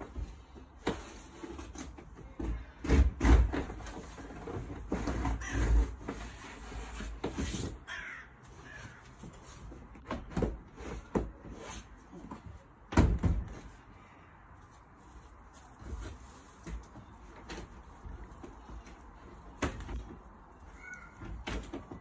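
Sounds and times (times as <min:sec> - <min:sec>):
knocks and thumps of plastic panels: 0:00.0 - 0:07.8, 0:08.8 - 0:11.6, 0:12.2 - 0:13.8, 0:15.8 - 0:22.0.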